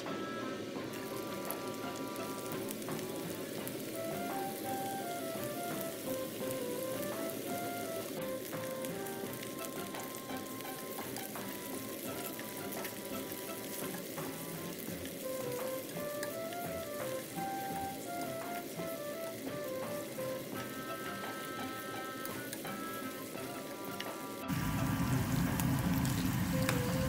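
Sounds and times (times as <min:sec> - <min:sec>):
background music melody: 0:00.0 - 0:27.0
vegetables sizzling in oil: 0:00.0 - 0:27.0.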